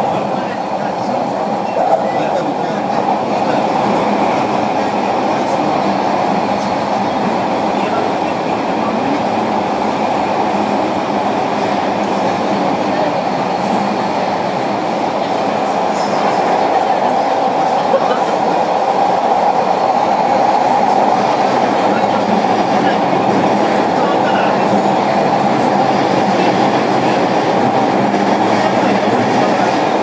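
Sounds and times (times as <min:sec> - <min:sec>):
train wheels on rail: 0:00.0 - 0:30.0.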